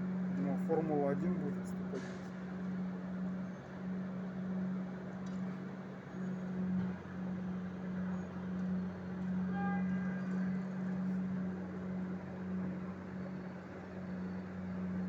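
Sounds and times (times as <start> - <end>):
road machinery engine hum: 0.0 - 15.0.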